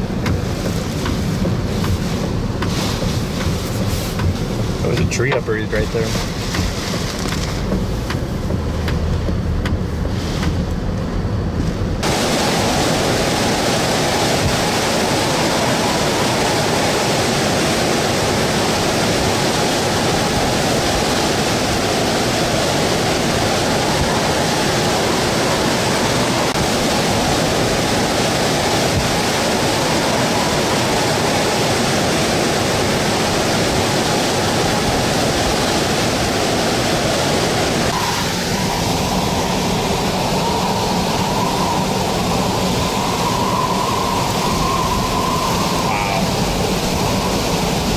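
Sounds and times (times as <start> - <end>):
roar of wind and floodwater: 0.0 - 47.9
wind and rain on vehicle: 0.0 - 47.9.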